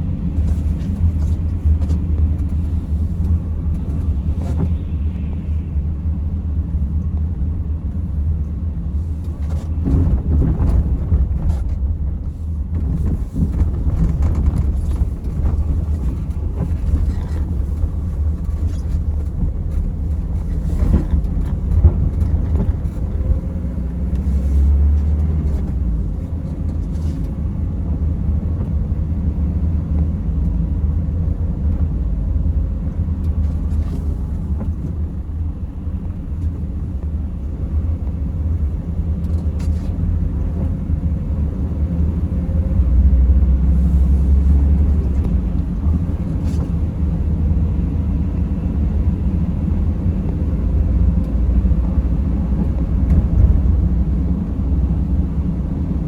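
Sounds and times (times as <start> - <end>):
van engine and tyres rumbling: 0.0 - 56.0.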